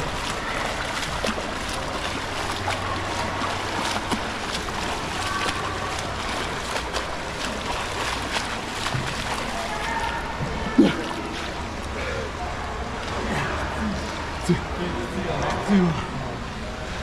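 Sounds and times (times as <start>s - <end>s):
swimmer splashing water: 0.0s - 17.0s.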